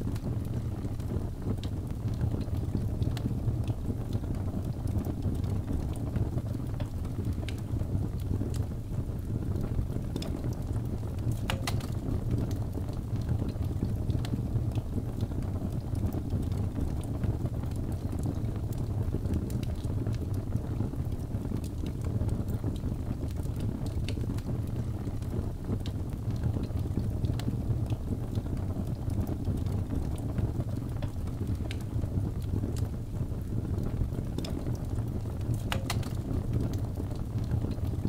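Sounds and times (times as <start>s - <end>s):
fire burning with low rumble: 0.0s - 38.0s
fire crackles and pops: 0.0s - 38.0s.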